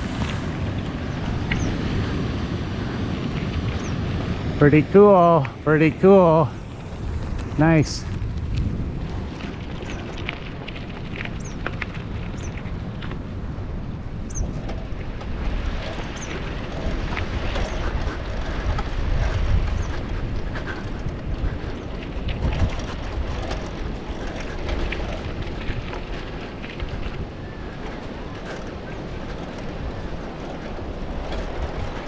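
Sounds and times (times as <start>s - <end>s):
tyres rolling on gravel: 0.0s - 32.0s
wind rumbling on microphone: 0.0s - 32.0s.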